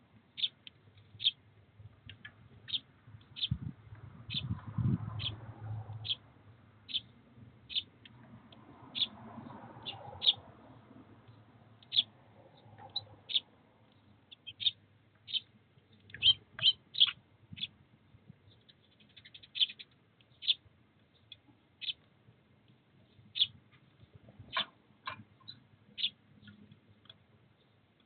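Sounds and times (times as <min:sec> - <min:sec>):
sparrows chirping: 0:00.3 - 0:01.4, 0:02.1 - 0:08.2, 0:08.9 - 0:10.5, 0:11.2 - 0:17.8, 0:18.4 - 0:22.1, 0:23.0 - 0:27.8.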